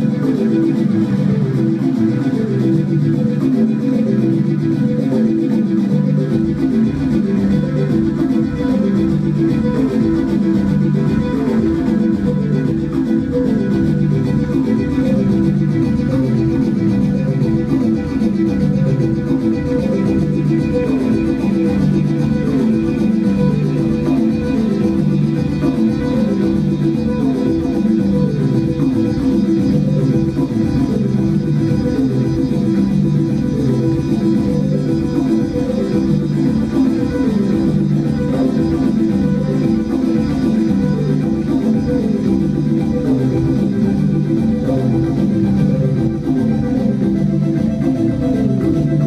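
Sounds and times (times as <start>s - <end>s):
plucked low notes: 0.0s - 49.0s.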